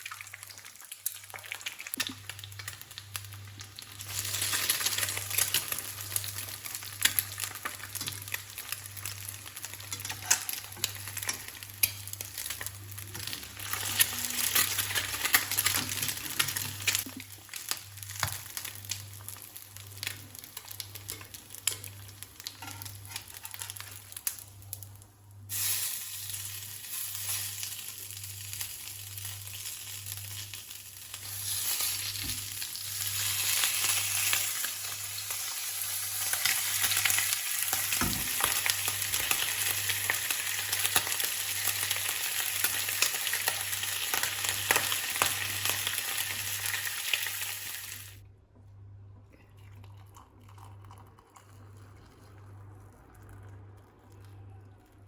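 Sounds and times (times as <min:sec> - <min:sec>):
food sizzling in a frying pan: 0:00.0 - 0:48.2.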